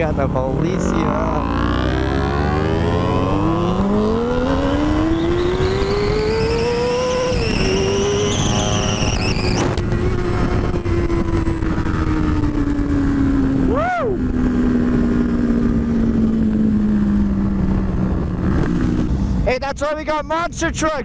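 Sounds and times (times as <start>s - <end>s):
motorcycle engine revving: 0.0s - 19.4s
wind rushing over microphone: 0.0s - 21.0s.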